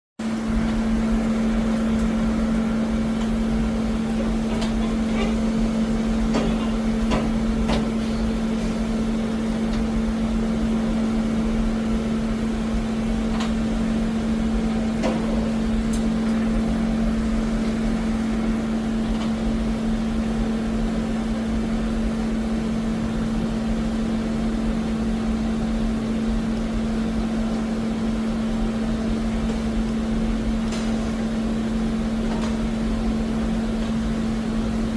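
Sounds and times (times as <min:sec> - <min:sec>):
lathe machine hum: 0:00.2 - 0:34.9.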